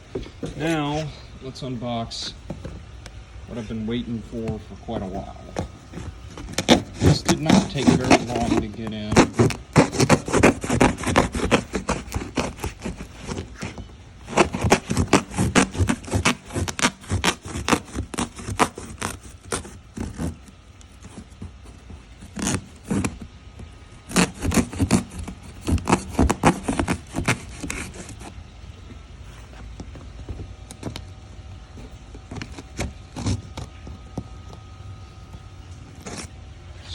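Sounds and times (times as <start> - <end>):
cardboard box scraping and rubbing: 0.4 - 1.2, 3.5 - 36.4.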